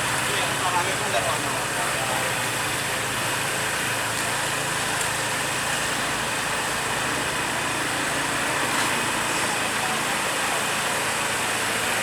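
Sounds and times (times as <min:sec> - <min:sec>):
engine-like running noise: 0:00.0 - 0:12.0.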